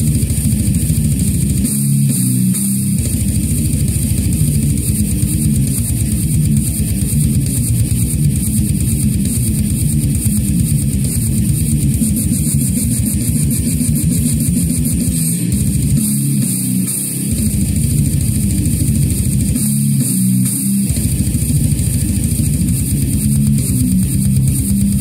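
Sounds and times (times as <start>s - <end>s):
electric guitar riffing: 0.0s - 25.0s
fast drums: 0.0s - 25.0s.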